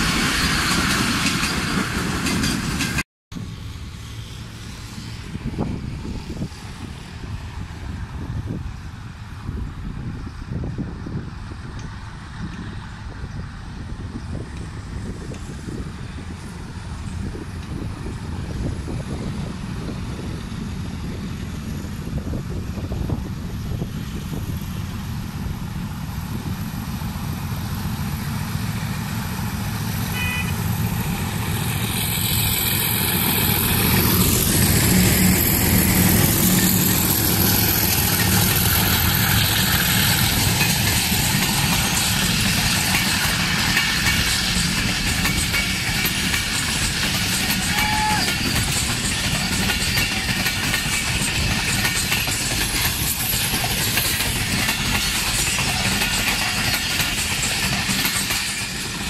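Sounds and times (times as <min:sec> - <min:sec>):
diesel locomotive engine hum: 0:00.0 - 0:59.0
train wheels rolling on rails: 0:00.0 - 0:59.0.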